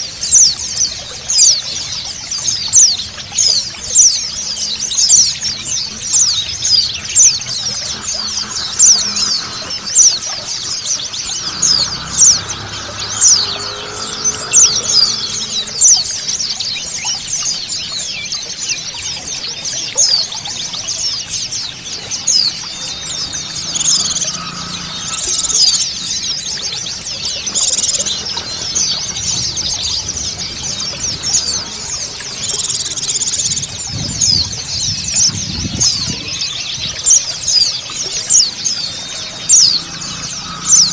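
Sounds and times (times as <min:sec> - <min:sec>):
birds twittering high chirps: 0:00.0 - 0:40.9
running water: 0:00.0 - 0:40.9.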